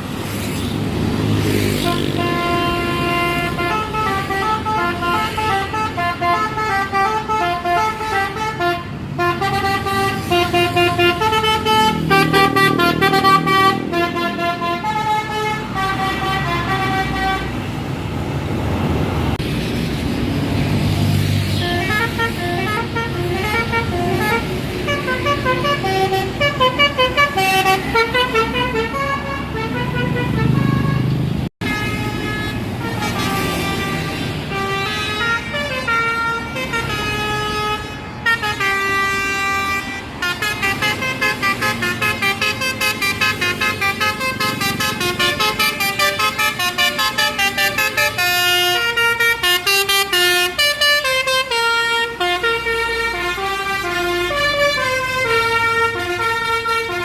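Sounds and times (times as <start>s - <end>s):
musical bus horns playing melodies: 1.4s - 18.1s, 21.3s - 57.0s.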